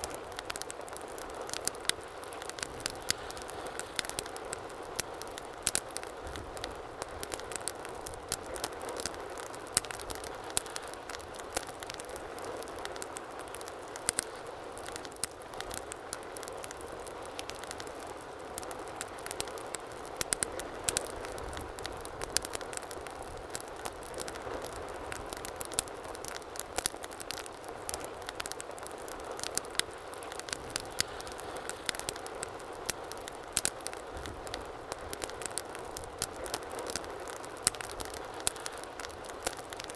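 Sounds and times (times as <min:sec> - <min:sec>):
fire crackles and pops: 0:00.0 - 0:39.9
wood fire hissing: 0:00.1 - 0:39.9.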